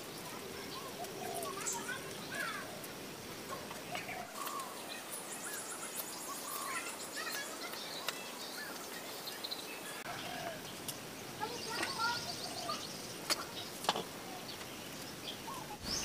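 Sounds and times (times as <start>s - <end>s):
birds chirping: 0.0s - 16.0s
steady background noise: 0.0s - 16.0s.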